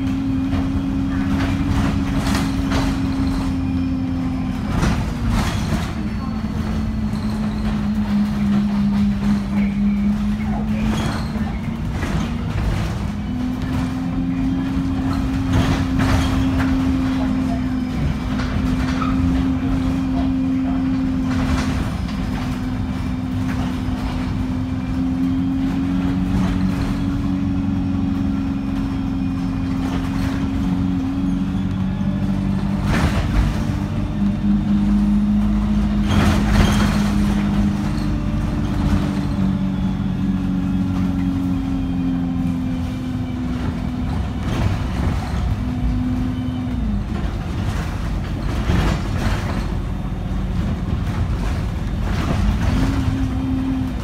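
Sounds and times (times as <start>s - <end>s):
bus engine hum: 0.0s - 54.0s
road rumble: 0.0s - 54.0s.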